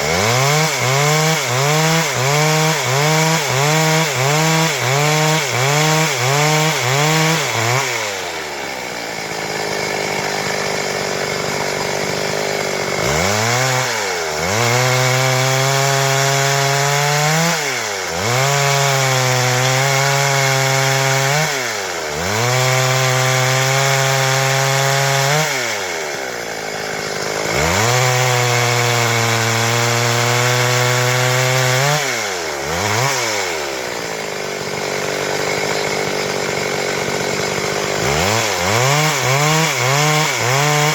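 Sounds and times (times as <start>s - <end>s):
chainsaw sawing wood: 0.0s - 40.9s.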